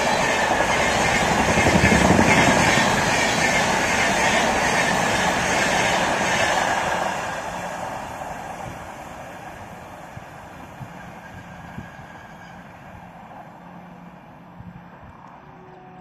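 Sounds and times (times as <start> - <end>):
train rumble receding: 0.0 - 16.0.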